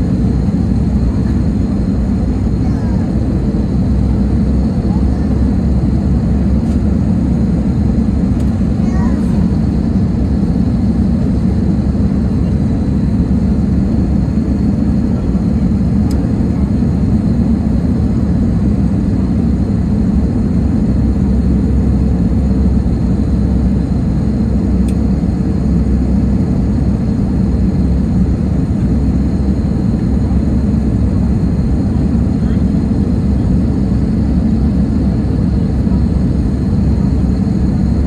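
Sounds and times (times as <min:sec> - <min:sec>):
airplane cabin rumble: 0:00.0 - 0:38.0.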